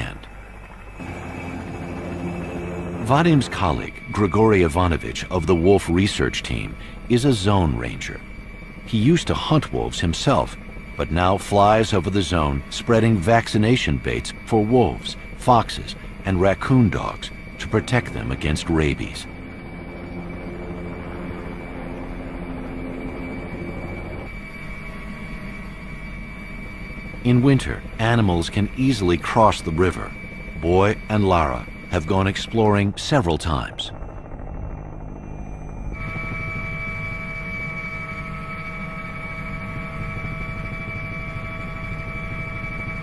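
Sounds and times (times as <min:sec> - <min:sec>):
helicopter engine and rotor: 0:00.0 - 0:43.0.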